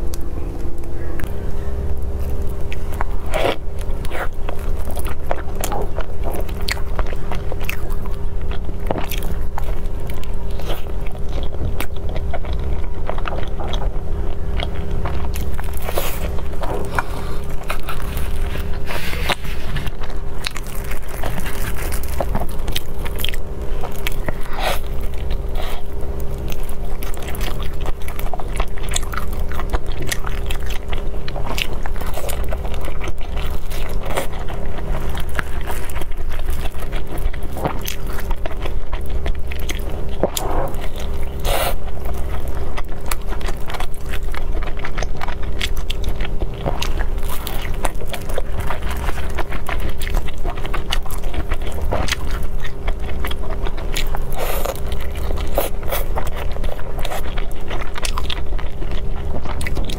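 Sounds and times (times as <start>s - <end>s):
biting and chewing dumplings: 0.0s - 59.9s
steady low hum: 0.0s - 59.9s.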